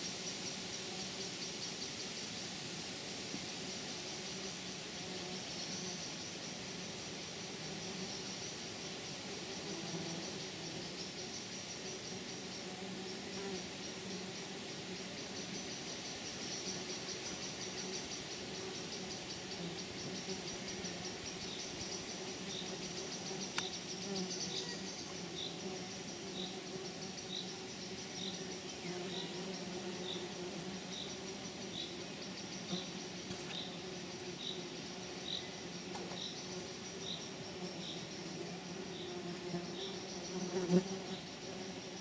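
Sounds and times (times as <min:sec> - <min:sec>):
insects chirring: 0:03.7 - 0:42.0.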